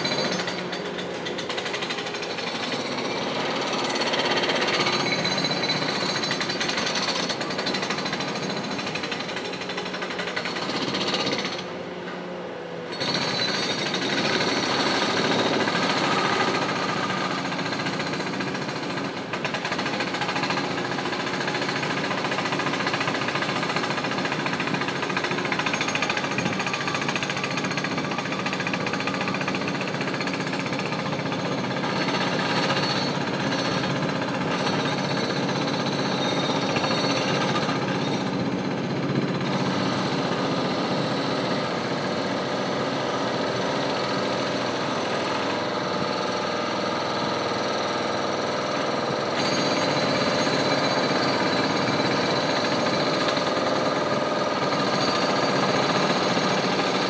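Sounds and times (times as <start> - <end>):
jackhammer hammering: 0.0 - 11.7, 12.9 - 57.0.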